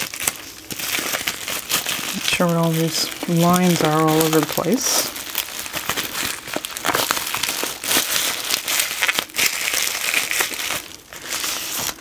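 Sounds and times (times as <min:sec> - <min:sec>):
bubble wrap crackling: 0:00.0 - 0:12.0.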